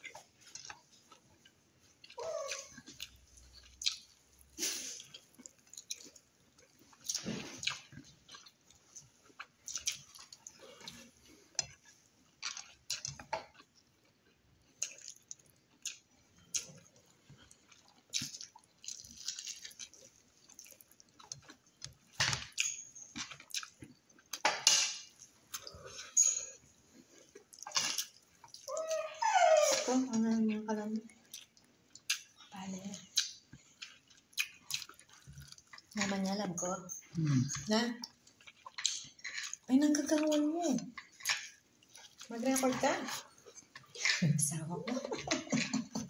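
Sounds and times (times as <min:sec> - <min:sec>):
person chewing and lip-smacking: 0:00.0 - 0:24.6, 0:25.2 - 0:29.1, 0:30.5 - 0:36.0, 0:37.0 - 0:42.3.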